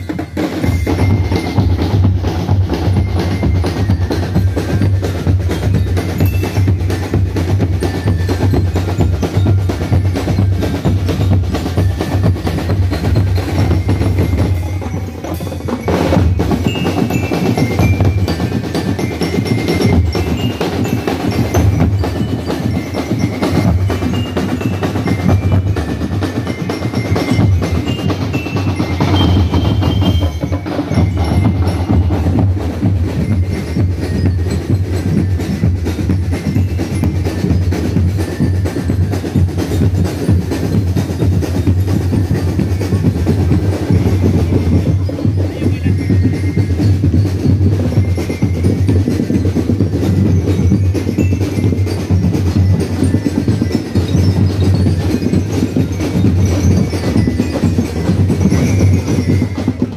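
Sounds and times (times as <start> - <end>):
bass and snare drums: 0.0 - 59.9
bell lyres ringing: 0.0 - 59.9.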